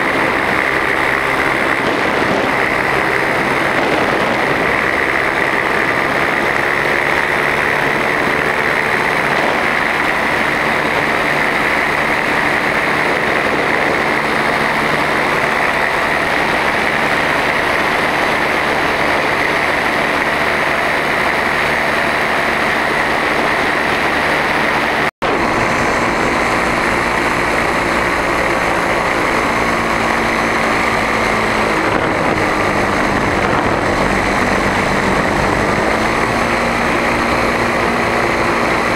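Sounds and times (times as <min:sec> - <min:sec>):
paramotor engine drone: 0:00.0 - 0:38.9.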